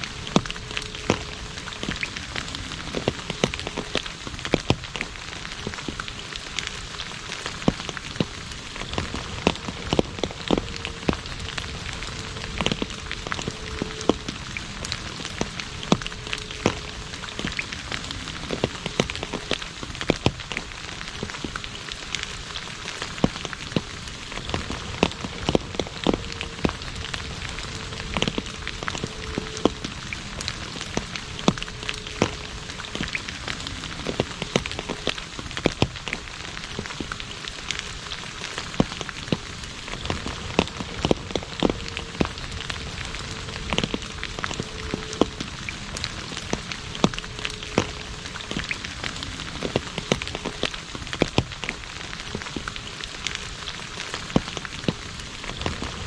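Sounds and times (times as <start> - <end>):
rain on an asphalt road: 0.0 - 56.0.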